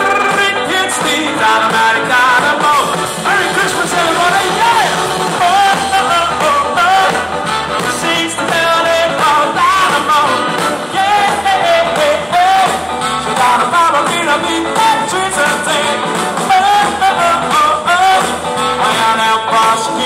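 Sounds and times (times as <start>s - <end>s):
person singing: 0.0s - 20.0s
rock and roll band playing: 0.0s - 20.0s.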